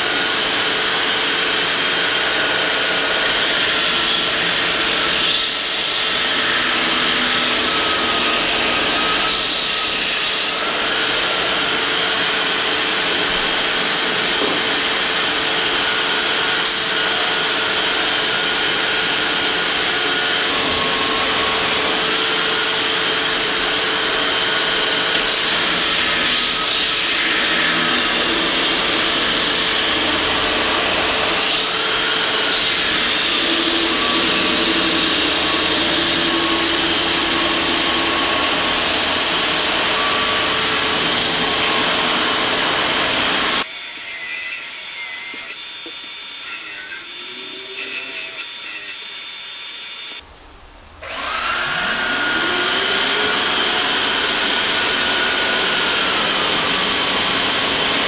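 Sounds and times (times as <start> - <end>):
power tool trimming wood: 0.0 - 50.2, 51.0 - 58.0
shop vacuum whine: 0.0 - 50.2, 51.0 - 58.0.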